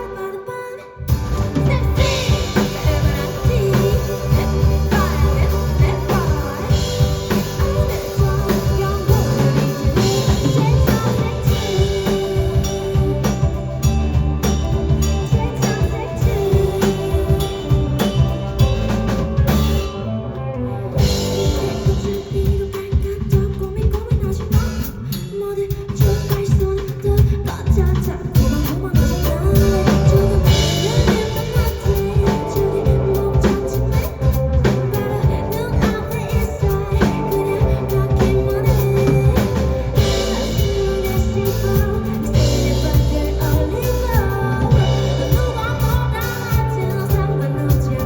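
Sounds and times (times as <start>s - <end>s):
live band playing: 1.0s - 48.0s.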